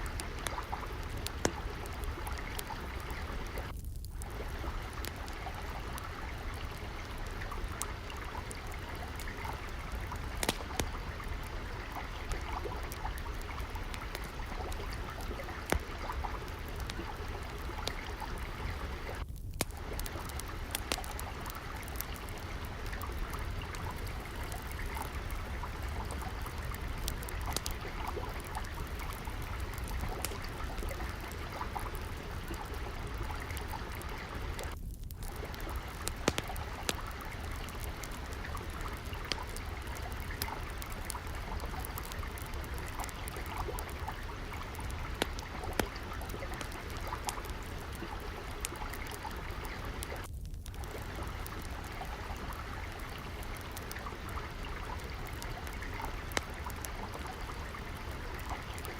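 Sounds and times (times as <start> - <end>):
fire crackling and popping: 0.0 - 58.9
water trickling: 0.0 - 58.9.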